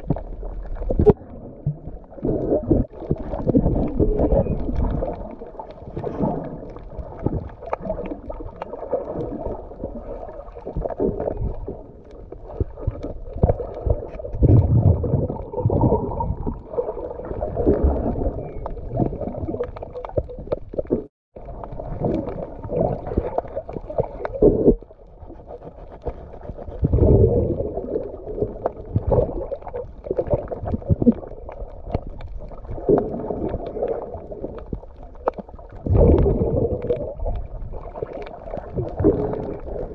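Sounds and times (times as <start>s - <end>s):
underwater gurgling and rumbling: 0.0s - 39.9s.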